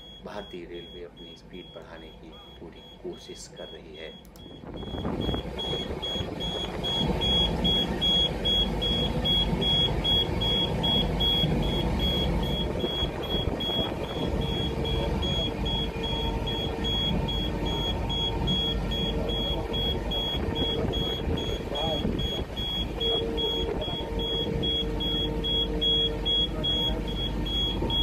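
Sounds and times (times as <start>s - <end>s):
high electronic beeps: 0.0s - 28.0s
wheels rumbling on rails: 4.4s - 28.0s.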